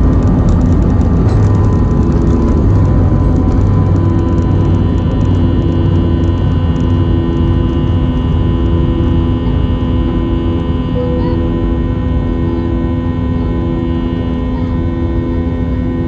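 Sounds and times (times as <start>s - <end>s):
jet engine roaring: 0.0s - 16.0s.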